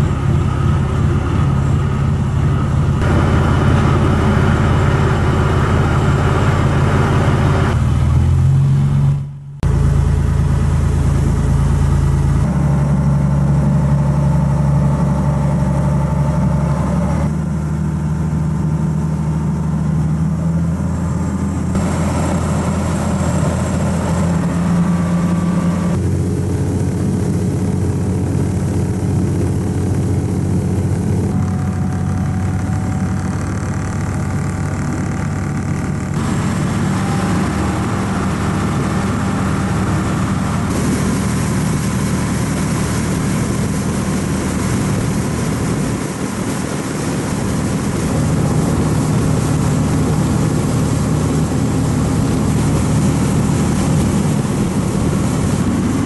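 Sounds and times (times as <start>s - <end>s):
ferry engine humming: 0.0s - 56.0s
rushing boat wake: 0.0s - 56.0s.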